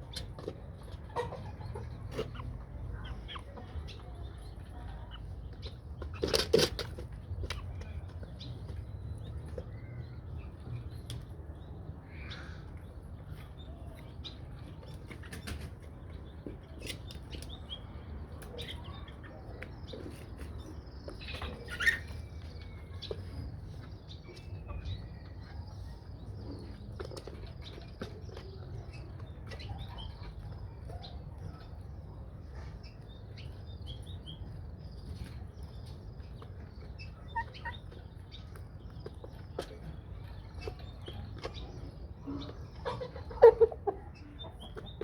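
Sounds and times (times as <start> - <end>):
chickens moving about: 0.0 - 45.0.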